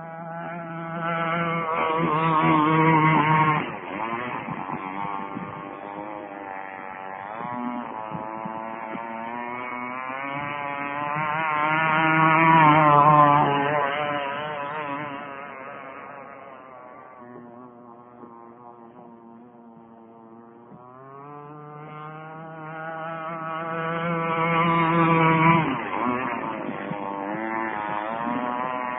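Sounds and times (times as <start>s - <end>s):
model boat two-stroke engine: 0.0s - 28.9s.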